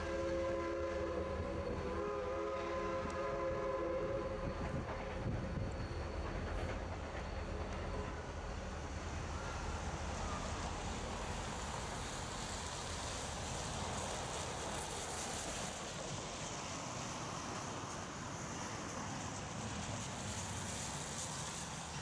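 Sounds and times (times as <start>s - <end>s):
distant steam train rumble: 0.0s - 22.0s.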